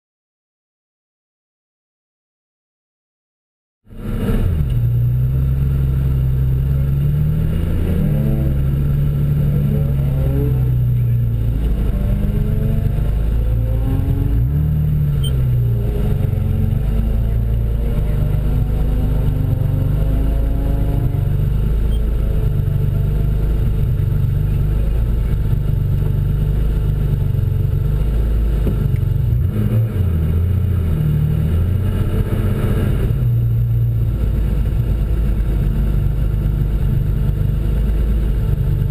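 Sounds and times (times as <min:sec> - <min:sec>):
car engine idling and revving: 0:03.9 - 0:38.9.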